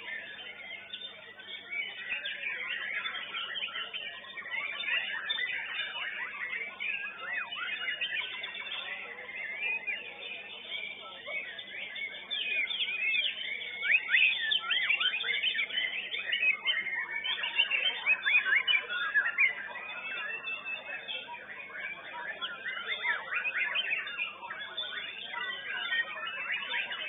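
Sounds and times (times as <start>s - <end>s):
songbirds singing: 0.0s - 27.0s.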